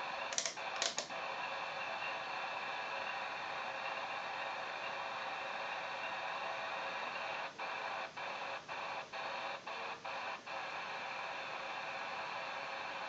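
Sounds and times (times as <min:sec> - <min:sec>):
buzzy radio interference hiss: 0:00.0 - 0:13.0.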